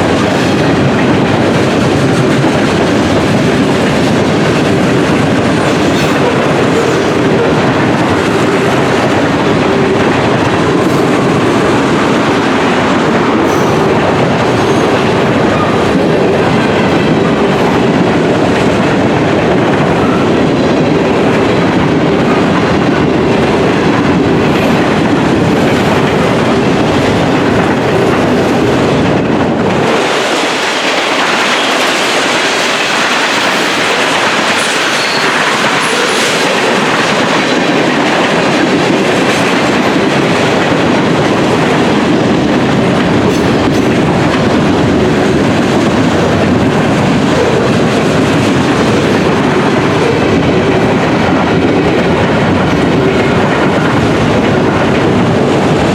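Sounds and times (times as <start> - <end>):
train wheels clattering on rails: 0.0 - 55.9.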